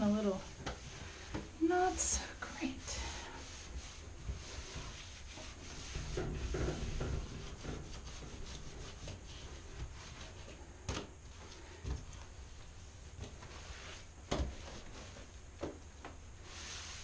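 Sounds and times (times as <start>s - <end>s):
scrub mitt rubbing a bathtub: 0.0s - 17.0s.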